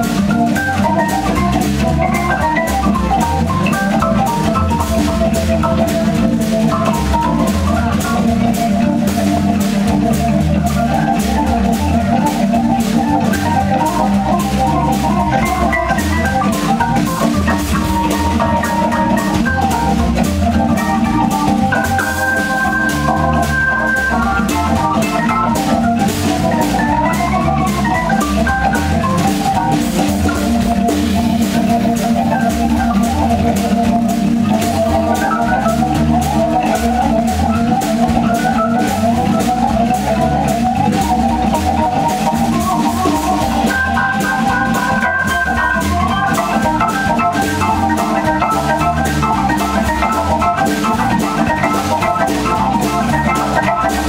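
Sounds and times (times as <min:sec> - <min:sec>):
bass line: 0:00.0 - 0:54.0
drum kit: 0:00.0 - 0:54.0
jazz organ: 0:00.0 - 0:54.0.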